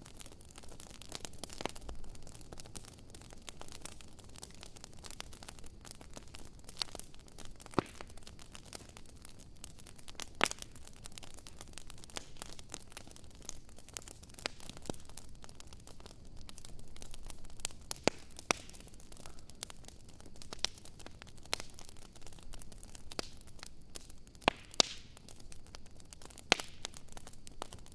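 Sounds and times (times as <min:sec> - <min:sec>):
sharp pops of fire: 0:00.0 - 0:27.9
wood fire crackling: 0:00.0 - 0:27.9.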